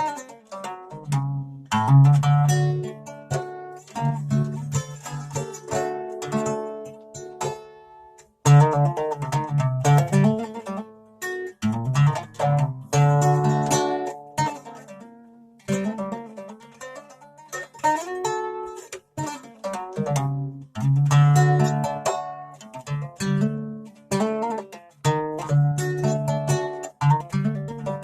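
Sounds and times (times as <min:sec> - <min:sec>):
acoustic plucked string instrument: 0:00.0 - 0:28.0.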